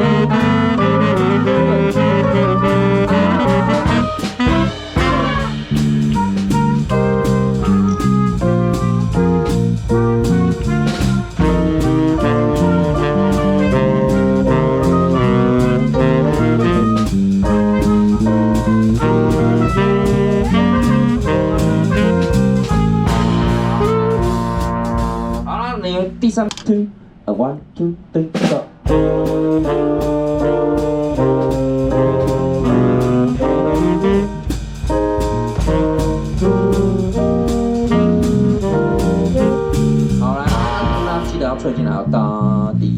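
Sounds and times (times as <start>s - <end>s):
big band playing jazz: 0.0s - 26.8s, 28.1s - 42.9s.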